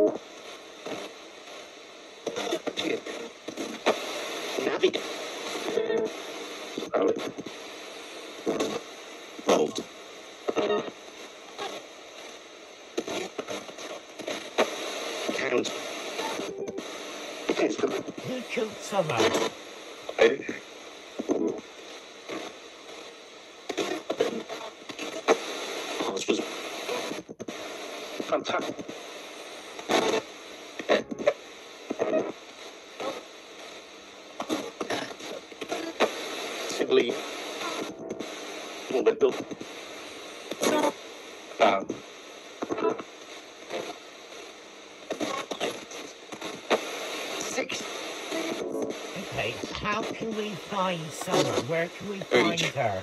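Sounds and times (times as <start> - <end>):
radio static hiss: 0.0 - 53.0
snatches of broadcast sound: 0.3 - 33.8, 34.4 - 53.0.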